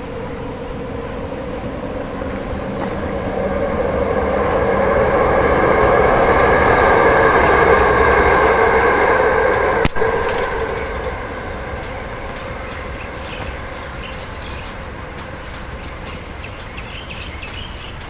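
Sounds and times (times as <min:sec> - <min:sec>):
passing vehicle rushing rumble: 0:00.0 - 0:17.4.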